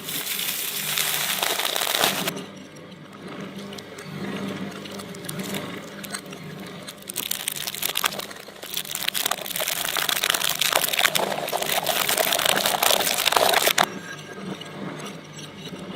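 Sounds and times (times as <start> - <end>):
shredder crackling and crunching: 0.0 - 2.4, 3.4 - 13.9.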